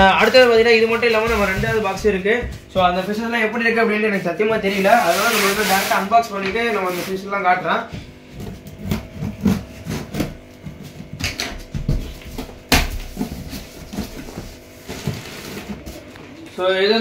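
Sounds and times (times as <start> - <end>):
cardboard scraping and rustling: 0.0 - 3.2, 4.5 - 7.3, 8.4 - 16.2.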